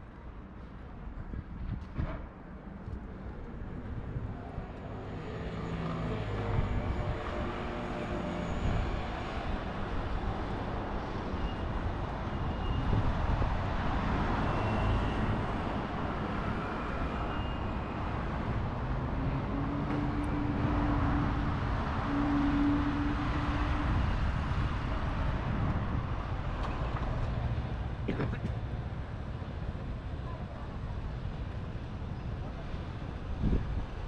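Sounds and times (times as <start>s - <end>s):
cars passing: 3.2s - 34.0s.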